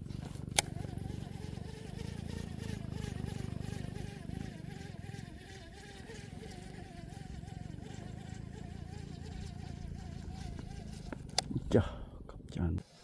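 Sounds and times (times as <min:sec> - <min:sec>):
small boat engine running: 0:00.0 - 0:11.4.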